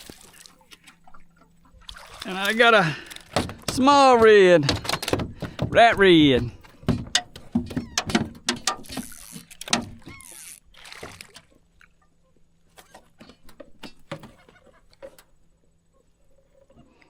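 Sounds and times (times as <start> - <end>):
fish handled in a boat: 0.0 - 17.0.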